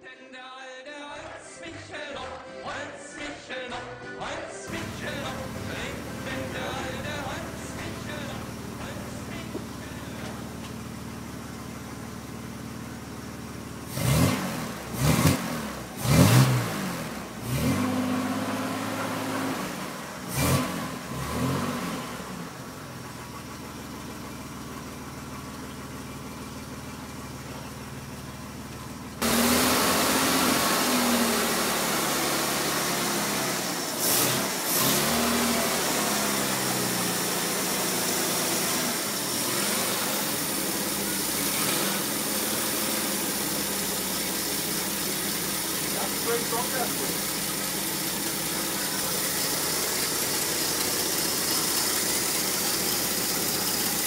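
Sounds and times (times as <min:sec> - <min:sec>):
car engine idling: 0:04.7 - 0:54.0
car engine throttle blips: 0:04.7 - 0:54.0.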